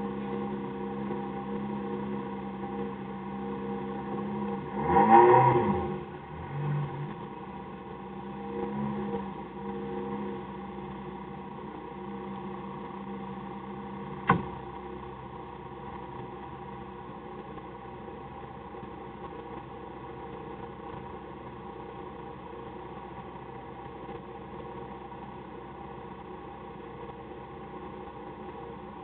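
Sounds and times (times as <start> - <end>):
car engine idling: 0.0 - 5.0, 5.7 - 29.0.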